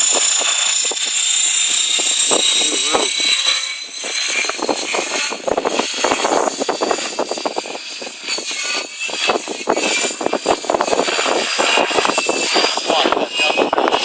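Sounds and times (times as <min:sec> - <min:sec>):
rc helicopter motor whine: 0:00.0 - 0:14.0
wind buffeting microphone: 0:00.0 - 0:14.0.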